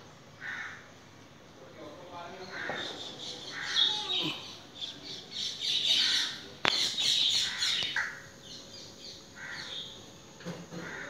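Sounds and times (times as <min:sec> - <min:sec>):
birds calling: 0:02.1 - 0:11.0.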